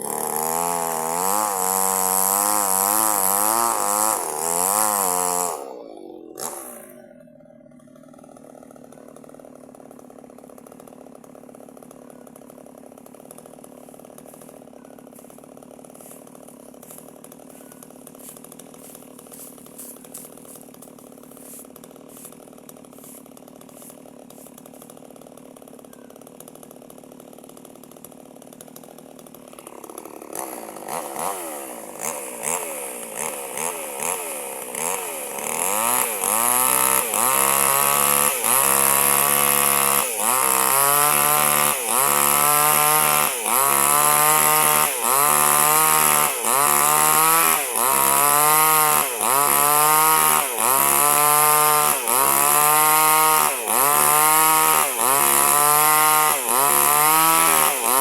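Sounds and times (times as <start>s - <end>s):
chainsaw revving and cutting wood: 0.0s - 58.0s.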